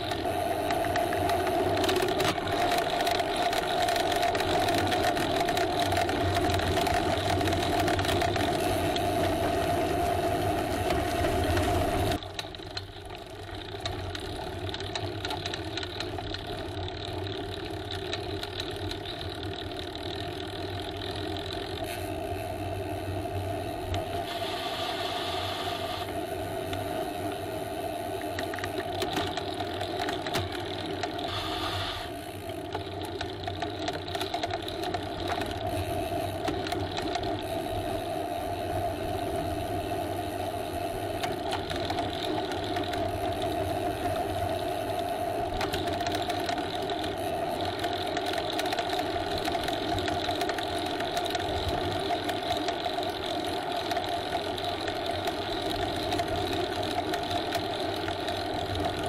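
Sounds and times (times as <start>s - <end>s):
bicycle drivetrain whir: 0.0s - 59.0s
constant low hum: 0.0s - 59.0s.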